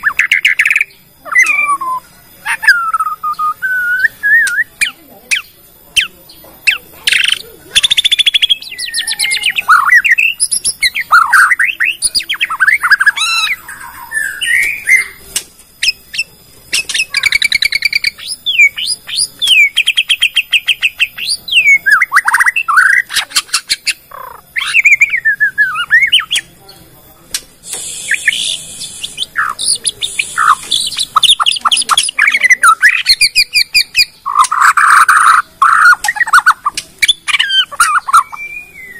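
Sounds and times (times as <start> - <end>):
bird singing whistles and trills: 0.0 - 15.2, 15.8 - 26.5, 27.7 - 38.9.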